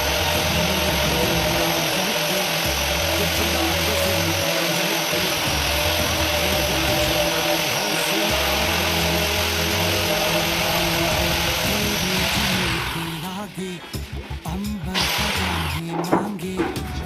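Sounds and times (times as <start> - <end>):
background music with bass notes: 0.0 - 17.0.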